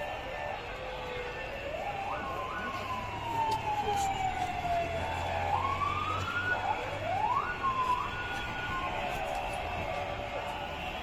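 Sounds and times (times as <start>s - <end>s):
siren wailing: 0.0s - 11.0s
street noise: 0.0s - 11.0s.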